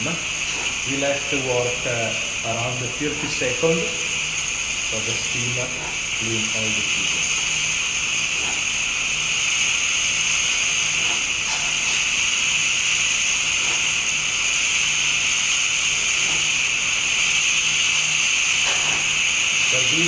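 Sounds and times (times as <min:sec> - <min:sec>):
steam wand hissing: 0:00.0 - 0:20.0.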